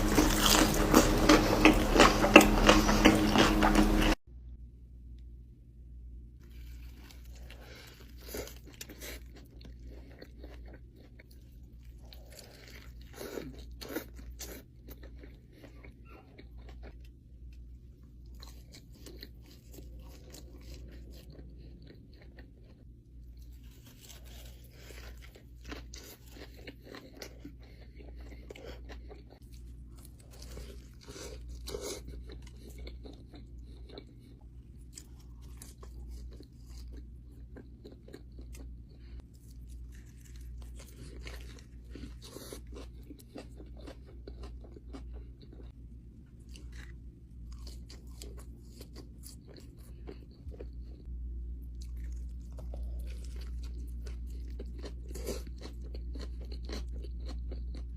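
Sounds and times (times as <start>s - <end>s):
chewing crispy fried food: 0.0s - 4.2s, 6.4s - 57.9s
steady low hum: 0.0s - 57.9s.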